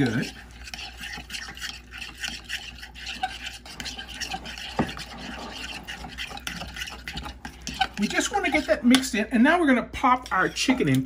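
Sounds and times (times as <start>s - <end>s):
spoon scraping in glass bowl: 0.0s - 9.1s, 10.0s - 11.0s.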